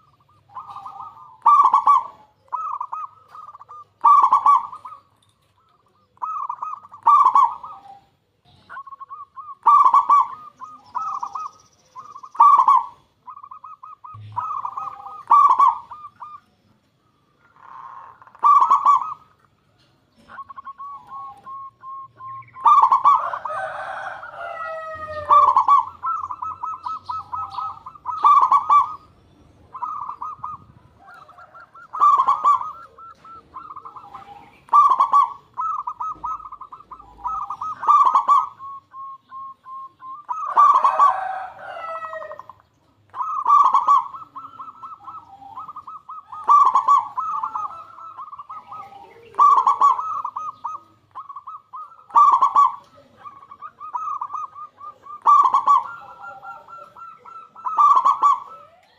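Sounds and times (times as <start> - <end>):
soft pulsed dove notes: 0.0 - 41.6, 42.3 - 58.9
dove cooing trilled phrase: 0.0 - 58.9.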